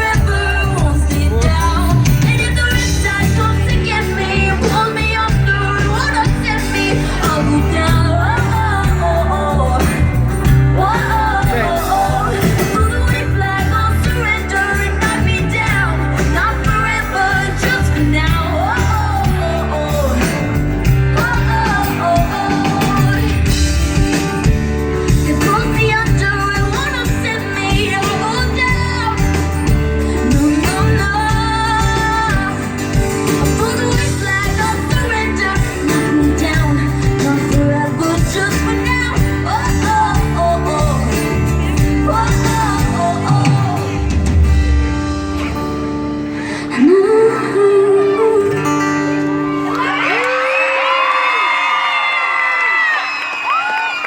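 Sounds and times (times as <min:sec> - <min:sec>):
woman singing: 0:00.0 - 0:44.4, 0:46.5 - 0:51.2
pop-rock band playing: 0:00.0 - 0:54.0.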